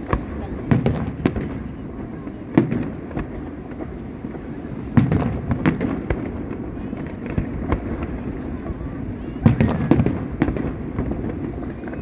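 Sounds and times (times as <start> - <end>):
fireworks bangs: 0.0 - 12.0
fireworks cracks: 0.0 - 12.0.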